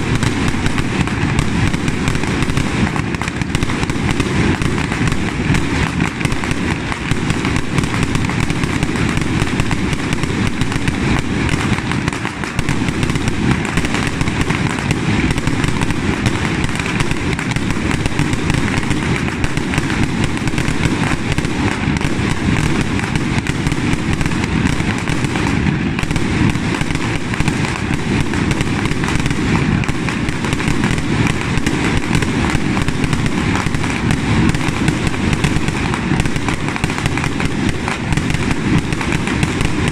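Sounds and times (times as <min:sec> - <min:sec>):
fireworks crackling and popping: 0:00.0 - 0:39.9.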